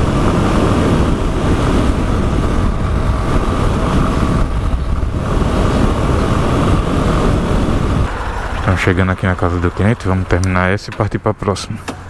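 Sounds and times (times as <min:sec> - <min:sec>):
motorcycle engine running: 0:00.0 - 0:11.2
wind rushing over microphone: 0:00.0 - 0:12.0.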